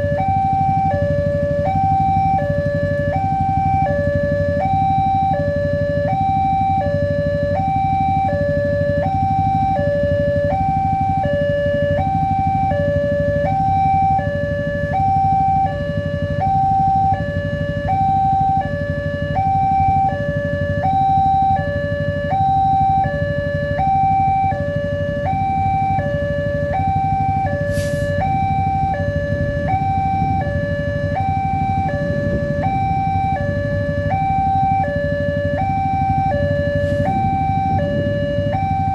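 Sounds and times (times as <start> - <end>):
steady low rumble: 0.0 - 38.9
two-tone electronic crossing alarm: 0.0 - 38.9.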